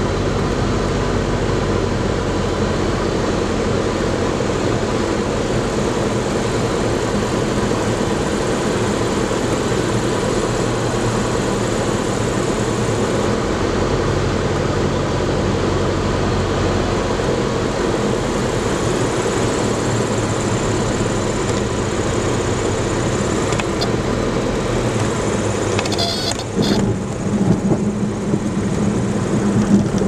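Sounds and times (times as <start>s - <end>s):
airplane engine and propeller droning: 0.0s - 30.0s.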